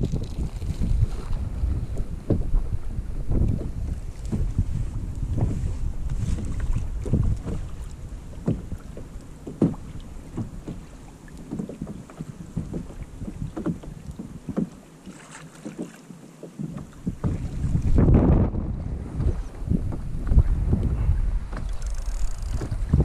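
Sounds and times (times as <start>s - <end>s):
wind rumbling on microphone: 0.0s - 14.8s, 16.6s - 23.0s
water knocking on kayak hull: 0.1s - 23.0s.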